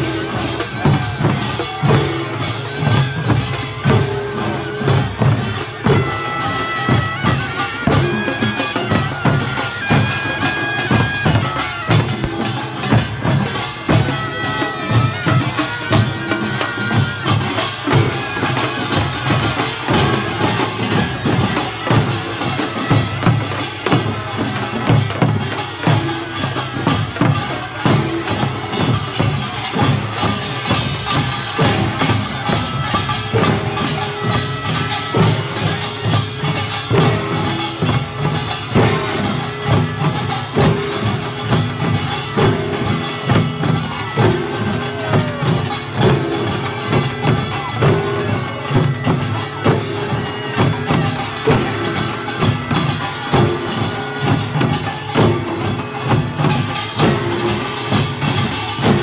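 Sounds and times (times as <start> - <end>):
drums and gongs beating: 0.0 - 59.0.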